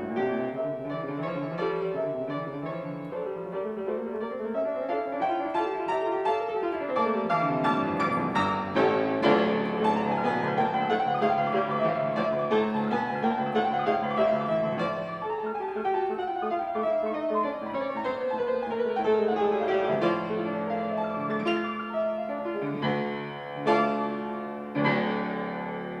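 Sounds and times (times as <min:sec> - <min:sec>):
grand piano playing classical music: 0:00.0 - 0:26.0.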